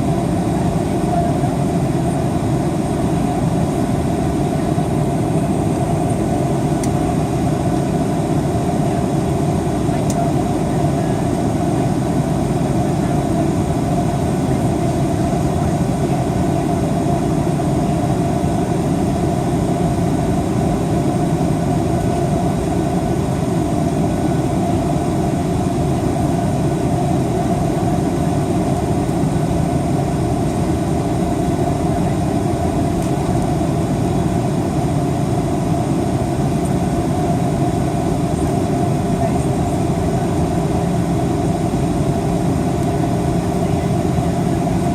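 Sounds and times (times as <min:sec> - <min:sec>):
airplane cabin drone: 0:00.0 - 0:44.9.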